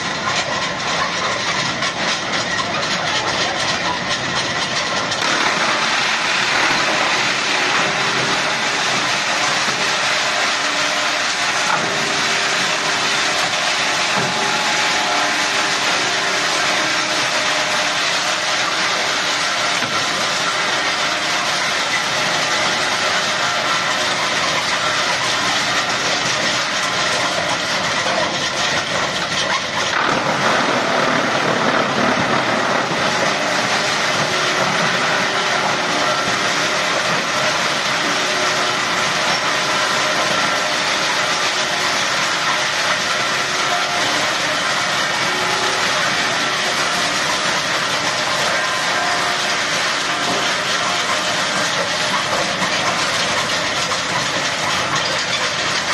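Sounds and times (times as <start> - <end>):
wood chipper chipping pallets: 0.0 - 55.9.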